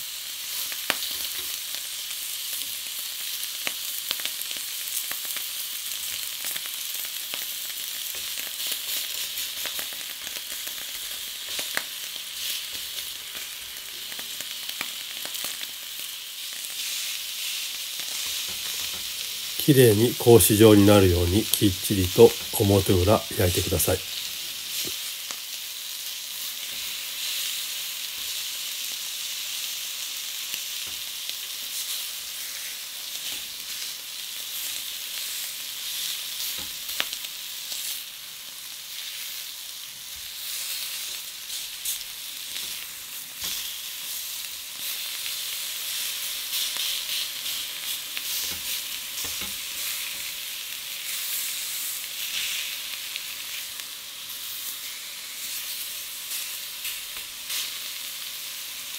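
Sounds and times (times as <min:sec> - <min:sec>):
meat sizzling on grill pan: 0:00.0 - 0:58.9.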